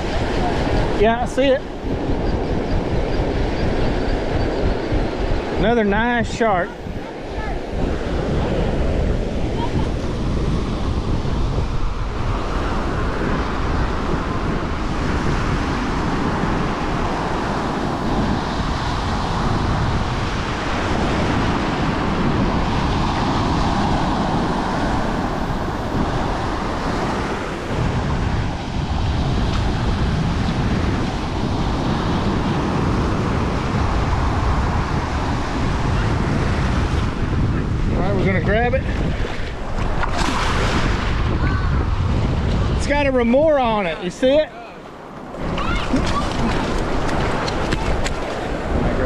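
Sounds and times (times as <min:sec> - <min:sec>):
wind buffeting microphone: 0:00.0 - 0:49.0
surf breaking on beach: 0:04.7 - 0:49.0.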